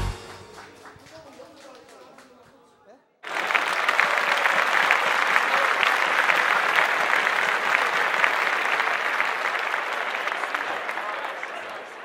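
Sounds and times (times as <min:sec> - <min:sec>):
crowd applauding: 0:00.0 - 0:02.6, 0:03.2 - 0:12.0.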